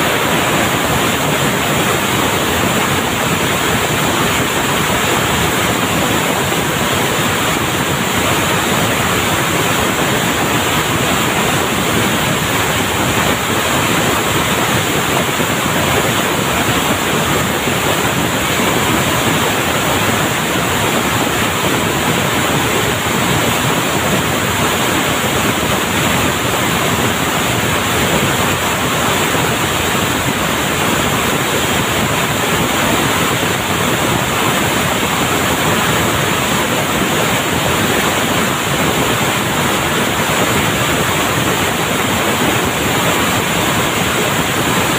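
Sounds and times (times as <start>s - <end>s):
textile mill machinery din: 0.0s - 44.9s.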